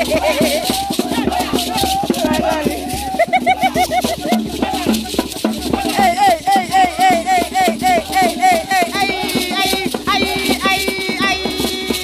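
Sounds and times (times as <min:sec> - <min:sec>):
gourd rattles shaking: 0:00.0 - 0:12.0
group singing: 0:00.0 - 0:12.0.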